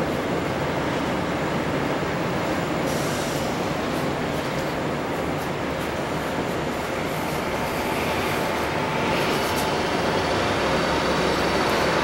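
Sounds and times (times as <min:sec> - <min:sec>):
city rumble: 0:00.0 - 0:12.0.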